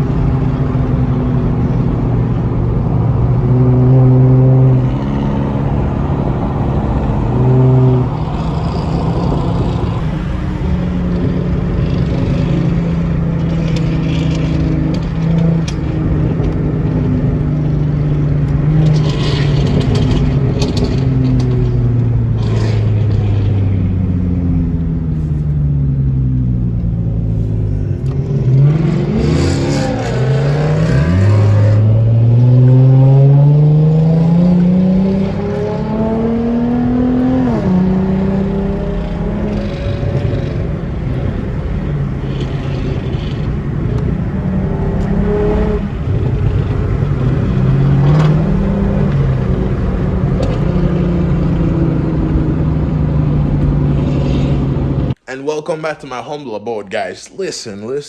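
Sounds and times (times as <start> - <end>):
car engines revving: 0.0 - 55.2.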